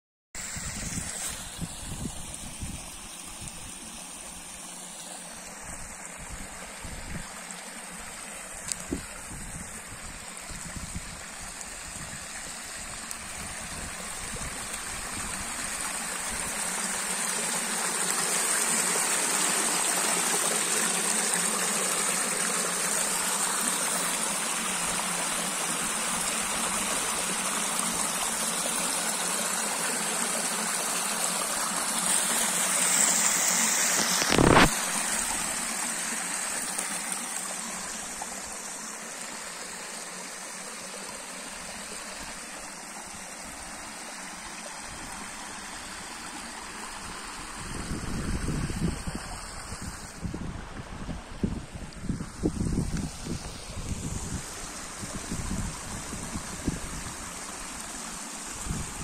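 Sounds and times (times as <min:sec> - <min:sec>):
stream rushing over rocks: 0:00.4 - 0:59.0.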